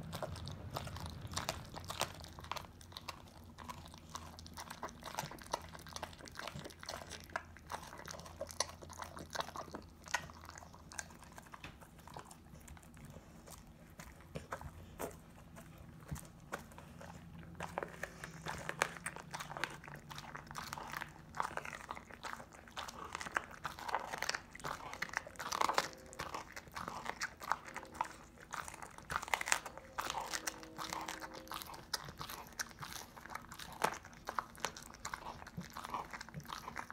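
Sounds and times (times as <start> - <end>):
dog crunching bone: 0.0 - 36.9.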